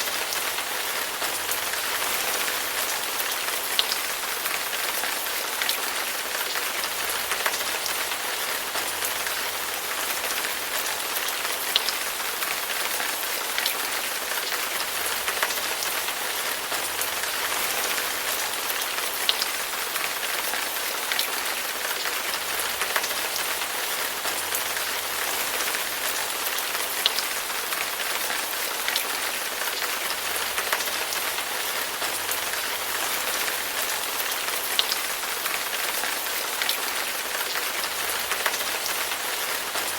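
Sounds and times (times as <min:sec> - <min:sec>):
raindrops ticking close by: 0:00.0 - 0:39.9
steady rain hissing: 0:00.0 - 0:39.9.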